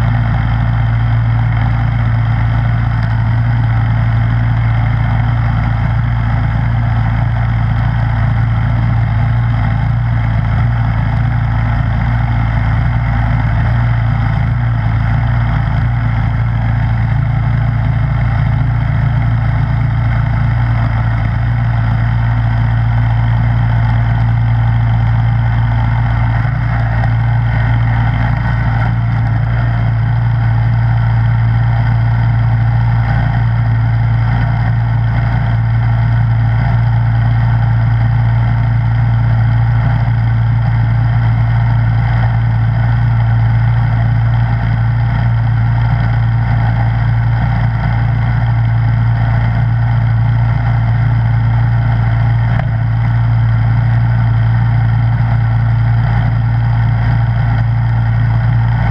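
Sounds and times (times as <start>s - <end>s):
snowblower engine humming: 0.0s - 58.9s.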